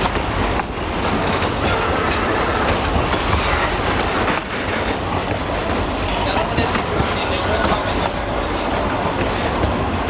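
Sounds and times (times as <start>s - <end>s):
train wheels clattering over rail joints: 0.0s - 10.0s.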